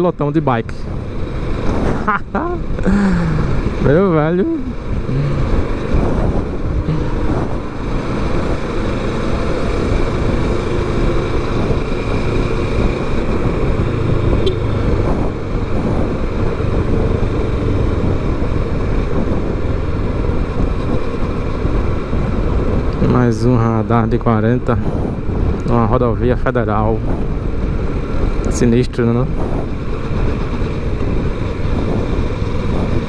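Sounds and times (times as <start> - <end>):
motorcycle engine hum: 0.0 - 33.0
wind and road noise: 0.0 - 33.0.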